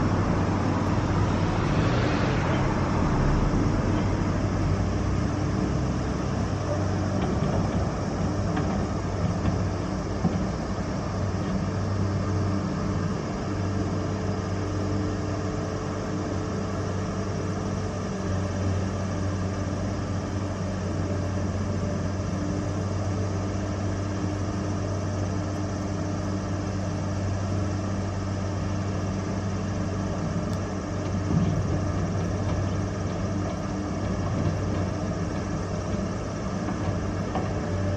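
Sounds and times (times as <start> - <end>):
heavy diesel machinery drone: 0.0 - 37.9.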